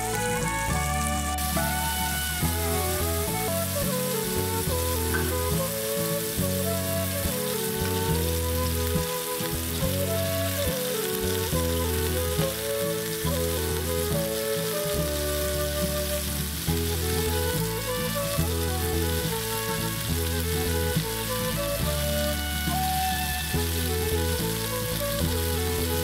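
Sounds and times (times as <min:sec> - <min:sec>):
background music low notes: 0:00.0 - 0:26.0
tomatoes sizzling in oil: 0:00.0 - 0:26.0.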